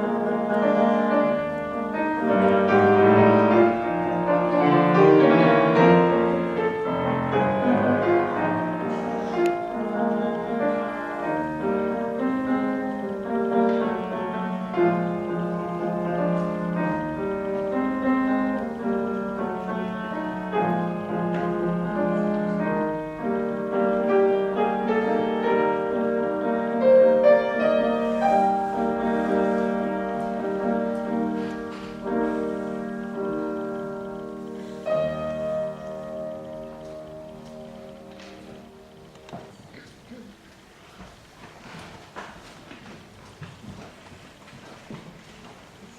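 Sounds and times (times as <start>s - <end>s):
solo classical piano: 0.0s - 45.9s.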